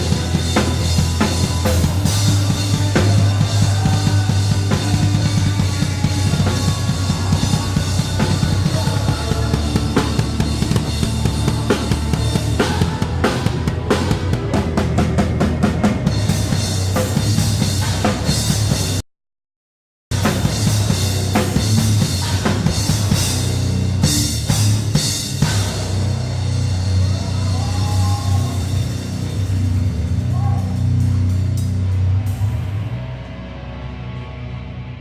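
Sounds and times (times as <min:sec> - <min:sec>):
bass line: 0:00.0 - 0:19.0, 0:20.1 - 0:35.0
drum kit playing: 0:00.0 - 0:19.0, 0:20.1 - 0:32.6.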